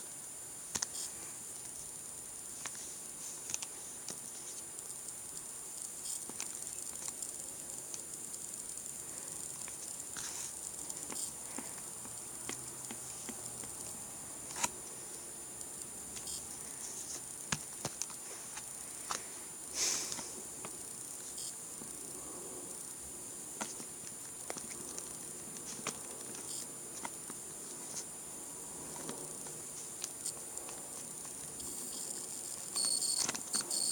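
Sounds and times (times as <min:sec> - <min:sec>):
faint hiss: 0:00.0 - 0:33.9.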